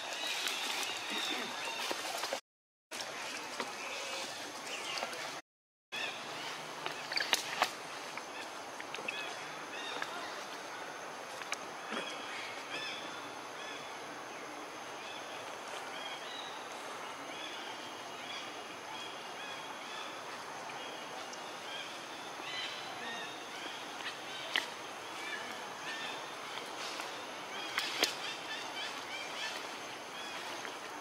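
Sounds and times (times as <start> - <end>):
steady forest hiss: 0.0 - 2.4, 3.0 - 5.4, 6.0 - 31.0.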